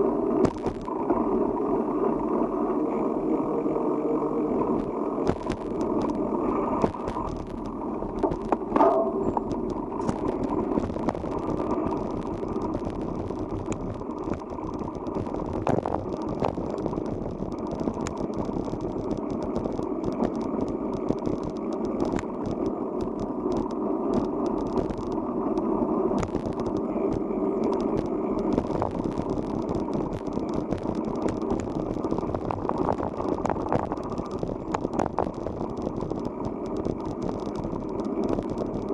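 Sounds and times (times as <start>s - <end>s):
bike rattles and clicks: 0.0s - 3.1s, 4.1s - 38.9s
bike tyres rolling rumble: 0.0s - 38.9s.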